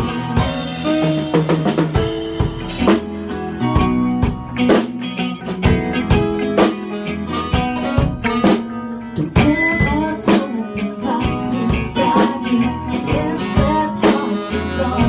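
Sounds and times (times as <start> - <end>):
bass guitar: 0.0 - 15.0
drum kit beat: 0.0 - 15.0
electric guitar: 0.0 - 15.0.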